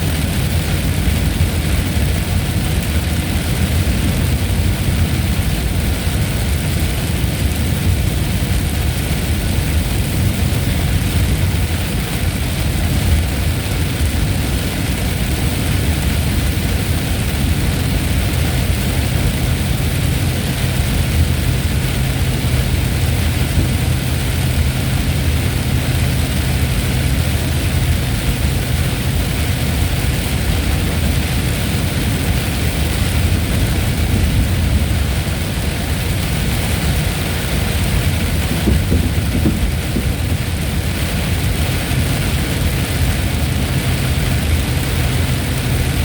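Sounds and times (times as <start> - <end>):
deep continuous rumble: 0.0 - 46.0
heavy rain hissing: 0.0 - 46.0.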